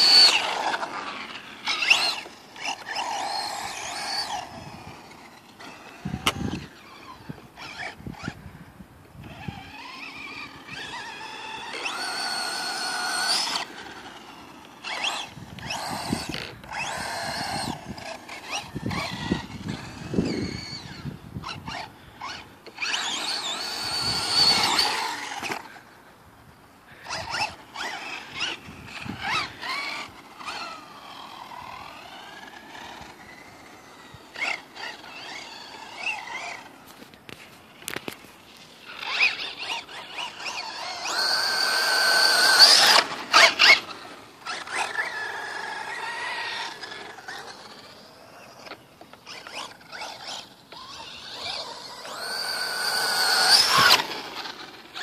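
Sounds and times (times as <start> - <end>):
electric motor whining: 0.0 - 25.8, 26.9 - 36.8, 38.9 - 55.0.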